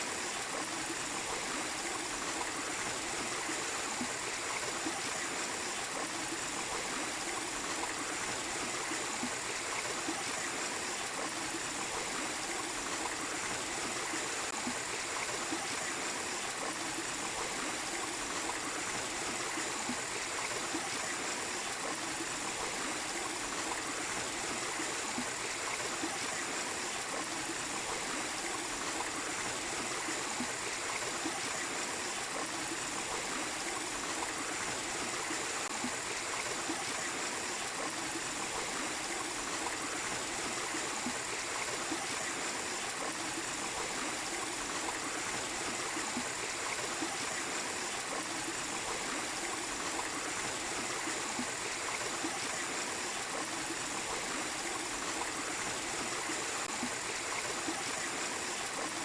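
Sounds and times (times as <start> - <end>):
small waterfall running: 0.0 - 59.0.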